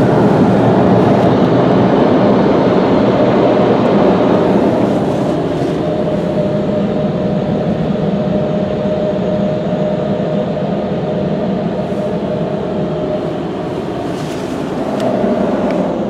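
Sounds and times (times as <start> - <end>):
car wash dryer blowers roaring: 0.0 - 16.0
steady tone: 0.0 - 16.0.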